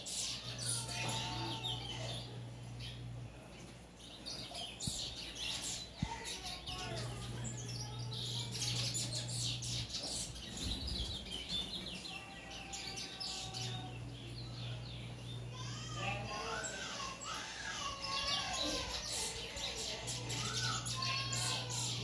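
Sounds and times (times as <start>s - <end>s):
finch singing: 0.0s - 22.0s.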